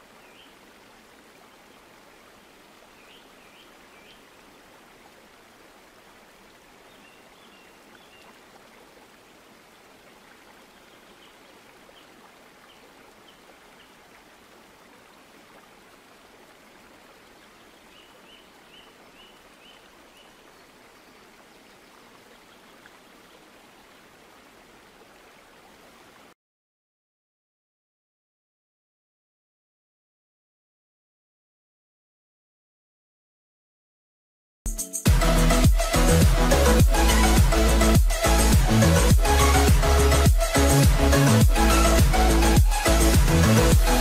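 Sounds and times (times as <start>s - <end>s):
stream running water: 0.0s - 26.4s, 35.1s - 44.0s.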